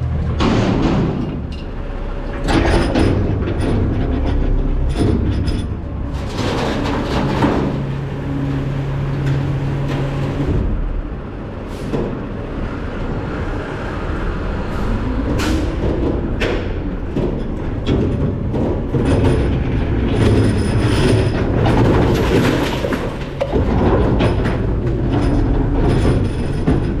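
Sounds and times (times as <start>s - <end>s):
metal clanks and bangs: 0.0s - 12.8s, 14.6s - 27.0s
garbage truck engine rumbling: 0.0s - 27.0s.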